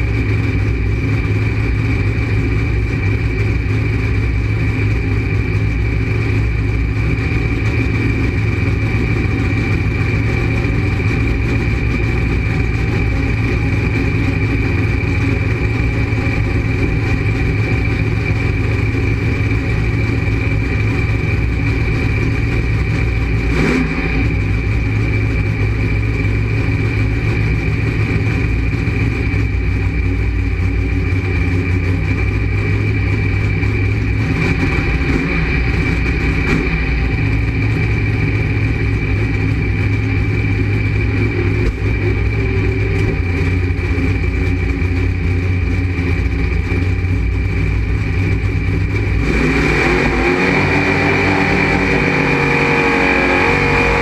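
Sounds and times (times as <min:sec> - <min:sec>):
race car engine idling: 0:00.0 - 0:54.0
steady high whine: 0:00.0 - 0:54.0.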